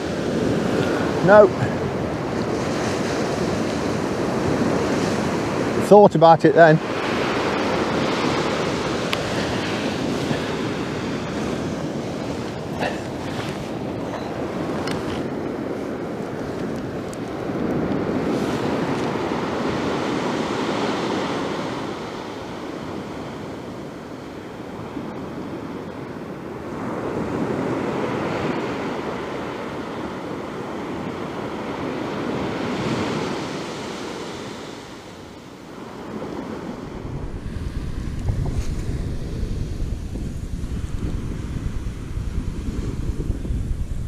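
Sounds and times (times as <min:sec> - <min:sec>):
surf breaking on beach: 0:00.0 - 0:44.0.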